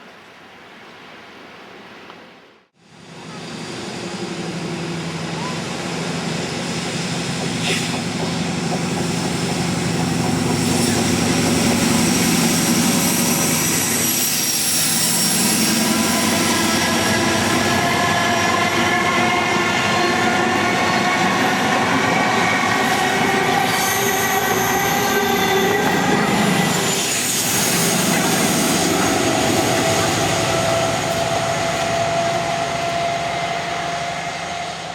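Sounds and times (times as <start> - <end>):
train rumble: 2.8 - 34.9.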